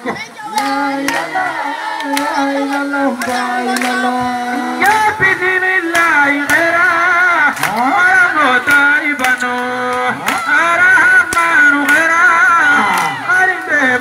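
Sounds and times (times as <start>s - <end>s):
man singing into microphone: 0.0s - 14.0s
sharp claps: 0.5s - 1.4s, 2.0s - 14.0s.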